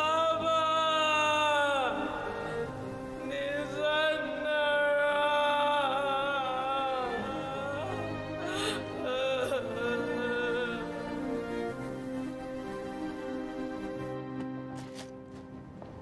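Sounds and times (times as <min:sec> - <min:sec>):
slow melody of long sliding notes: 0:00.0 - 0:15.8.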